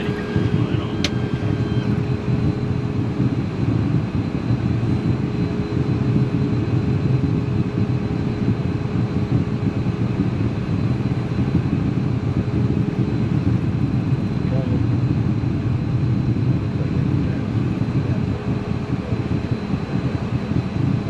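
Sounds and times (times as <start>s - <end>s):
jet cockpit rumble: 0.0s - 21.0s.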